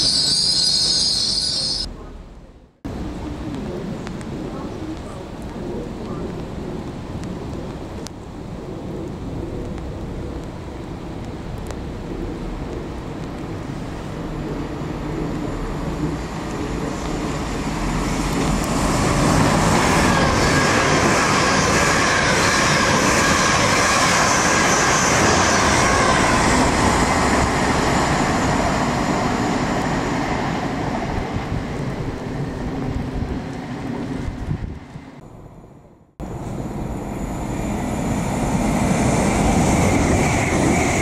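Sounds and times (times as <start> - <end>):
train passing at speed: 2.9 - 41.0.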